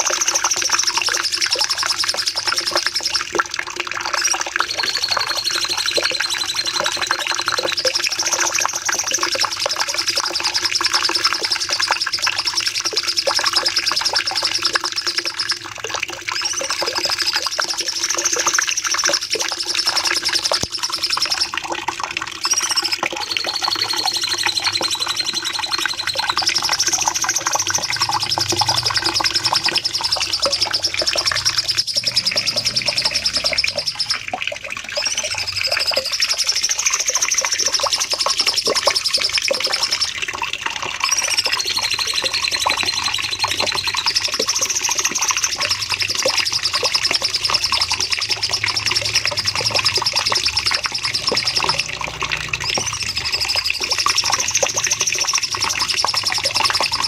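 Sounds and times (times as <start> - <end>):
bird singing trilled phrases: 0.0 - 40.2, 41.0 - 57.0.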